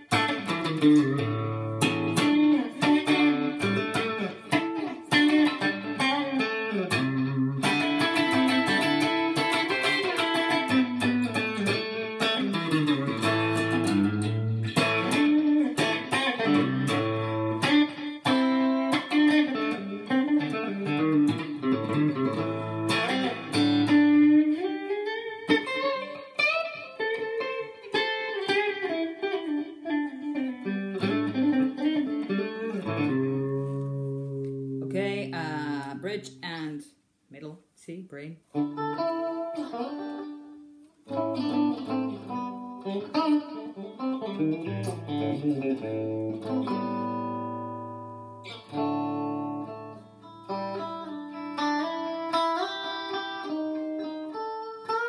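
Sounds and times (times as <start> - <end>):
clean electric guitar: 0.0 - 36.9, 38.4 - 55.0.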